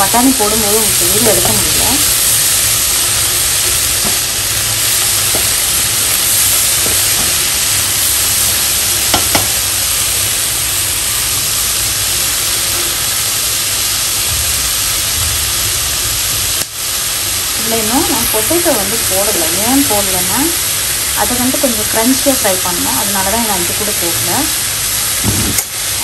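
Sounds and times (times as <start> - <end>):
vegetables sizzling in a wok: 0.0 - 26.0.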